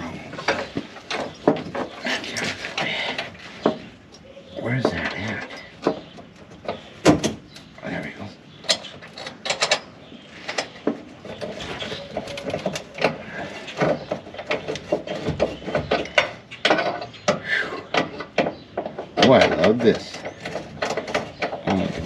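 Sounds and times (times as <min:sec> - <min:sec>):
hand tools clanking: 0:00.0 - 0:07.7, 0:08.6 - 0:22.0.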